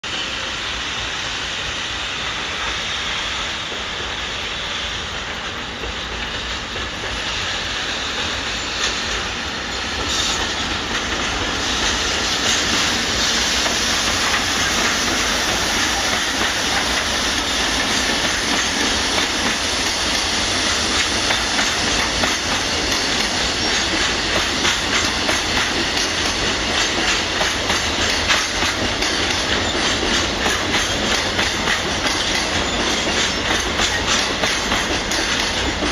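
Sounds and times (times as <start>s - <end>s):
train wheels clattering on rails: 0.1s - 35.9s.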